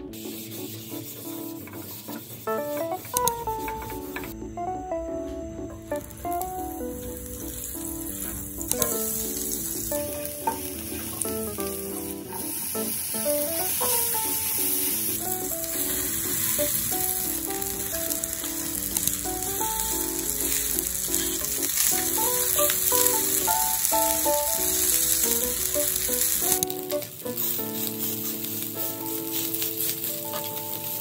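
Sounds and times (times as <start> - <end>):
food sizzling in frying pan: 0.0 - 31.0
spatula stirring: 5.9 - 31.0.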